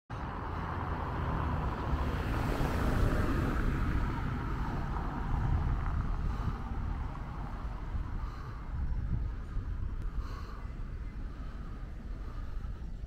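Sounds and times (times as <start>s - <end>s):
outdoor street noise hiss: 0.1s - 13.0s
wind buffeting microphone: 0.2s - 13.0s.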